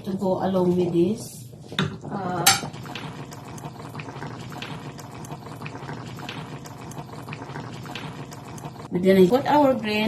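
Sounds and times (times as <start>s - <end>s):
stew bubbling in a pot: 0.0s - 10.0s.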